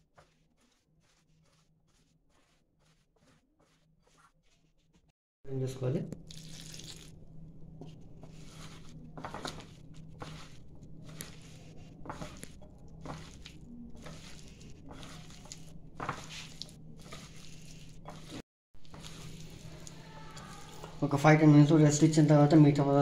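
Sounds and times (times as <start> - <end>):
hand squishing wet batter: 0.0 - 5.1, 6.1 - 22.2.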